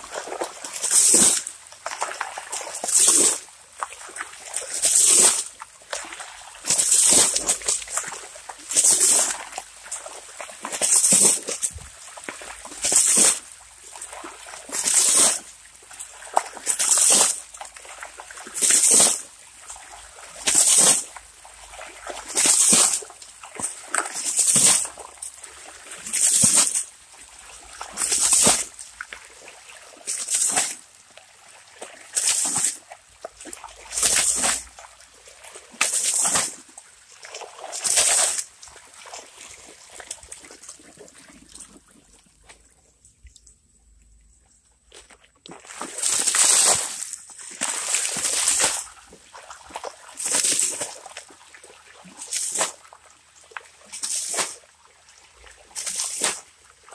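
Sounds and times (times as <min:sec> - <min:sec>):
water splashing onto gravel: 0:00.0 - 0:43.5, 0:44.9 - 0:56.9
water trickling over stones: 0:00.0 - 0:56.9.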